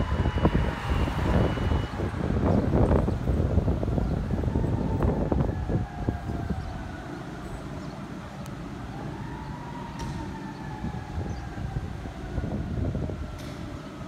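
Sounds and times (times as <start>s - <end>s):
fire siren wailing: 0.0s - 14.0s.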